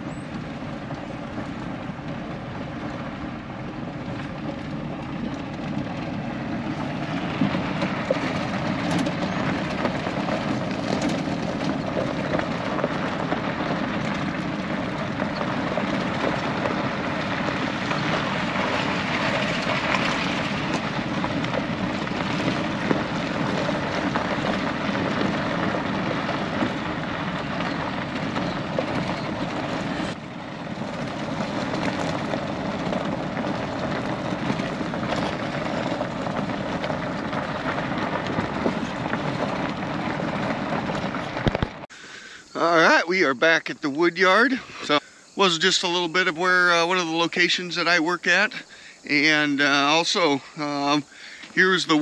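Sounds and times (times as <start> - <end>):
truck engine hum: 0.0 - 52.0
tyres on gravel: 0.0 - 52.0.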